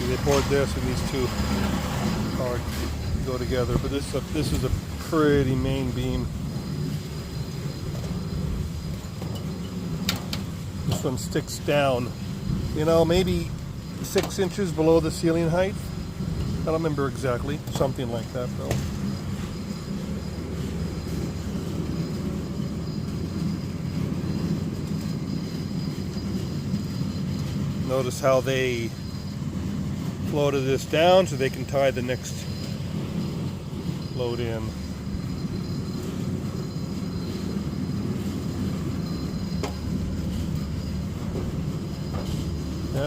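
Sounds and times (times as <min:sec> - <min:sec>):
engine rumbling: 0:00.0 - 0:43.0.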